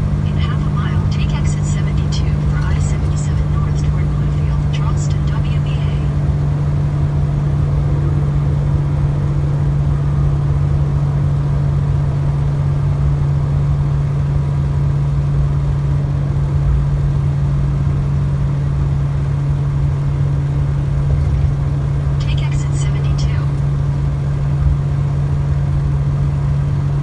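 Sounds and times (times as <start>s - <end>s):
road rumble: 0.0s - 27.0s
truck engine drone: 0.0s - 27.0s.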